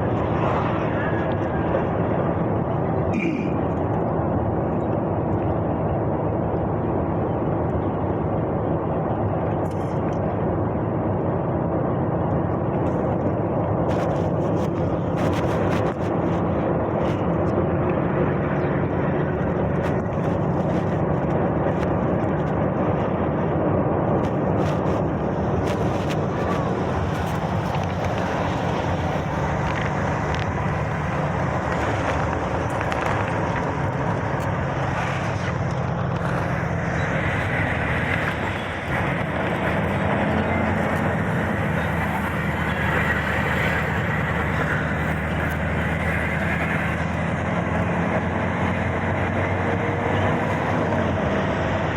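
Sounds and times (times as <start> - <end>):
road noise: 0.0 - 51.9
truck engine drone: 0.0 - 51.9.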